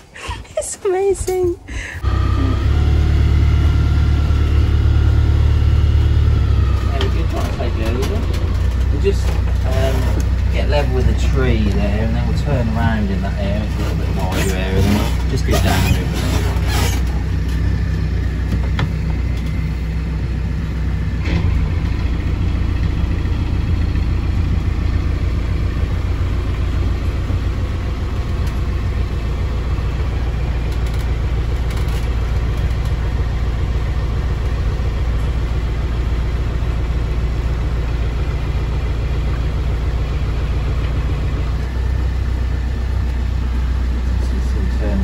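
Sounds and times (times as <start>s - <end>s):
boat diesel engine humming: 0.0s - 45.0s.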